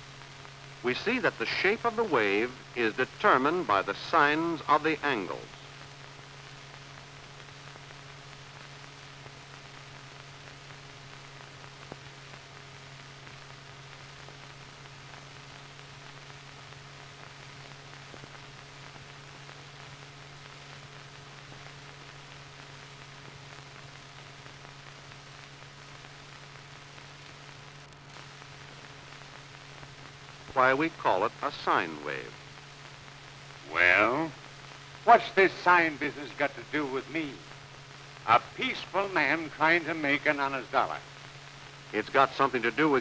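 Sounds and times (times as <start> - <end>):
film soundtrack hiss and hum: 0.0 - 43.0.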